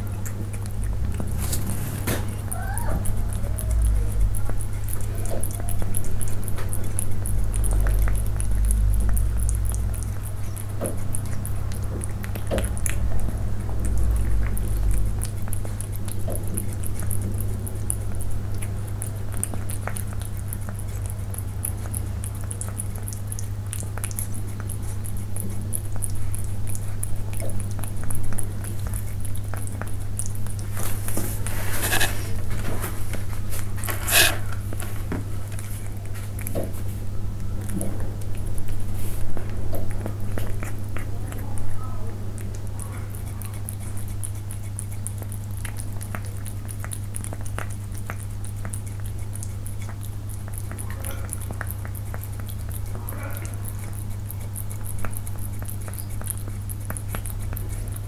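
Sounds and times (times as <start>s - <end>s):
cats chewing: 0.0s - 58.0s
steady low hum: 0.0s - 58.0s.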